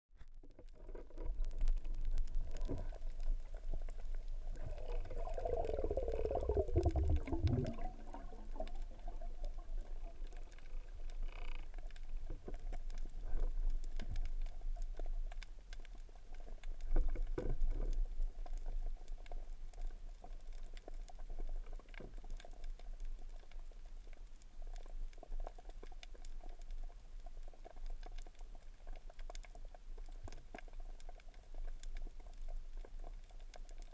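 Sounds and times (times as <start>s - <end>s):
underwater clicks and water movement: 0.2s - 33.9s.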